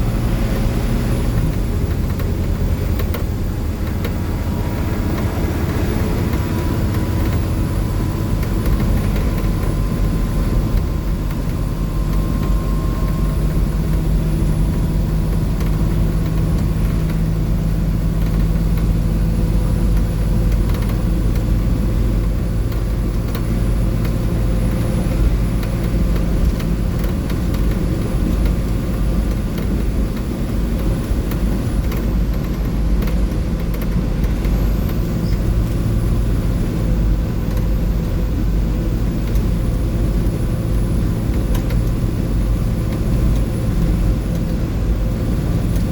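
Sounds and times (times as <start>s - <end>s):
bus diesel engine drone: 0.0s - 45.9s
road and tyre noise: 0.0s - 45.9s.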